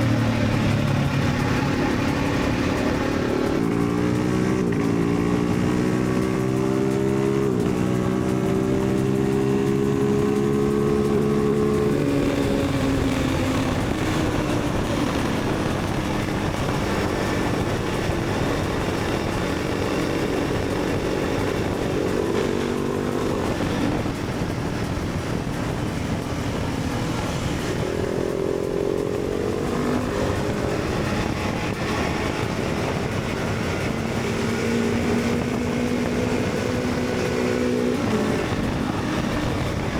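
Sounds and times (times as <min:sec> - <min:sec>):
motorcycle engine shifting gears: 0:00.0 - 0:39.9
wind and road noise: 0:00.0 - 0:39.9.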